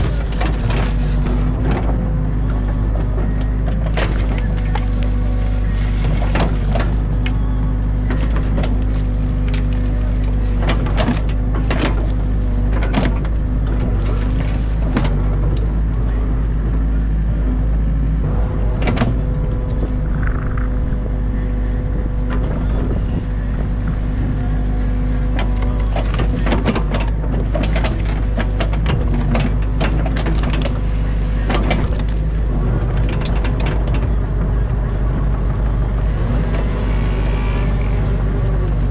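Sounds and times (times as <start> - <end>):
excavator diesel engine: 0.0 - 38.9
hydraulics working: 0.0 - 38.9.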